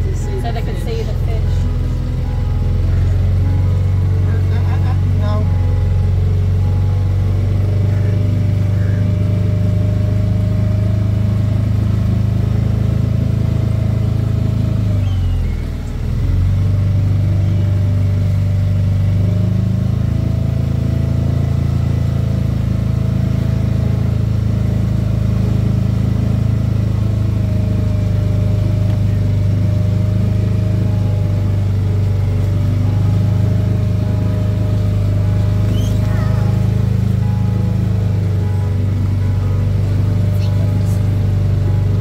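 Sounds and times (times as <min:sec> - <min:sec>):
motorboat engine droning: 0:00.0 - 0:42.0.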